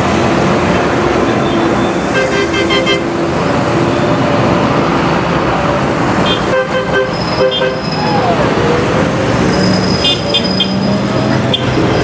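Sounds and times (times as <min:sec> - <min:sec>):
tractor diesel engines driving past: 0:00.0 - 0:12.0.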